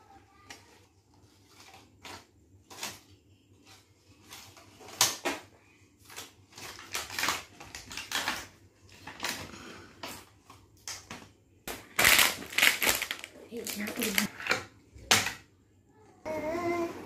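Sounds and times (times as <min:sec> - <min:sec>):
plastic toys and wrapping crinkling: 0:00.0 - 0:16.9.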